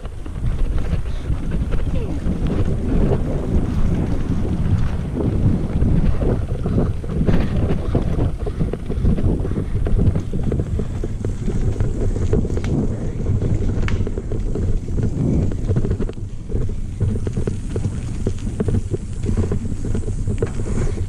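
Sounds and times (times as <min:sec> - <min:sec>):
bike tyres rolling and rattling: 0:00.0 - 0:21.0
wind on microphone: 0:00.0 - 0:21.0.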